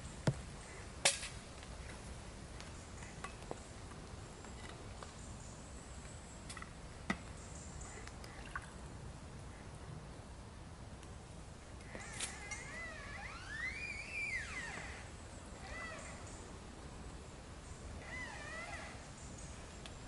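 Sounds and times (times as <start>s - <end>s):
faint woodland background: 0.0s - 20.0s.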